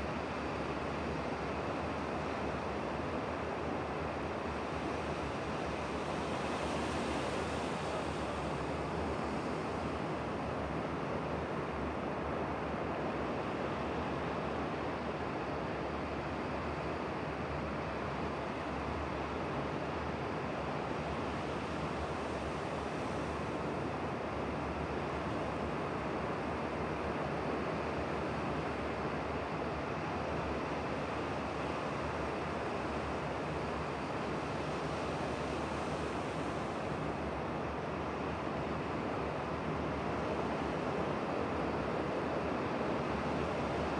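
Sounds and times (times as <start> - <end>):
surf washing on shore: 0.0 - 43.9.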